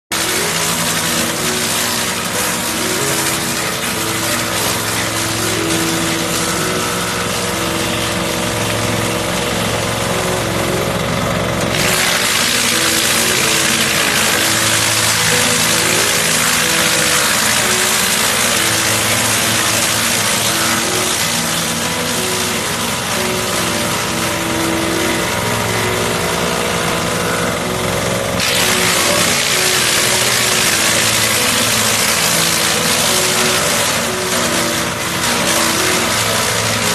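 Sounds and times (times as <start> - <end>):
garden shredder running: 0.1 - 36.9.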